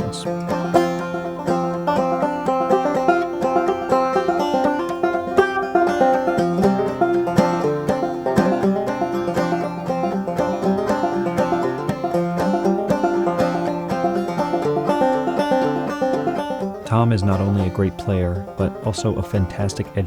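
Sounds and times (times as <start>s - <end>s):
banjo plucked tune: 0.0s - 20.0s.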